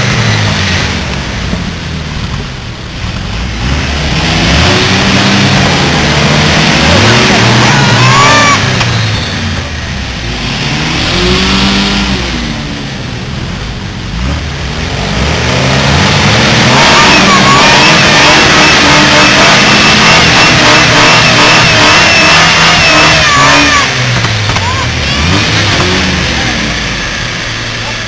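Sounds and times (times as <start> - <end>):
off-road engine revving: 0.0 - 28.0.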